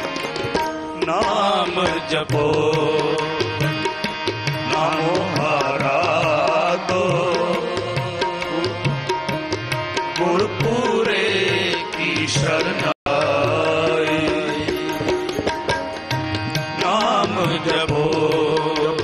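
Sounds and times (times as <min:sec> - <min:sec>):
voices singing: 0:00.0 - 0:09.1, 0:10.0 - 0:19.0
harmonium melody: 0:00.0 - 0:19.0
tabla rhythm: 0:00.0 - 0:19.0.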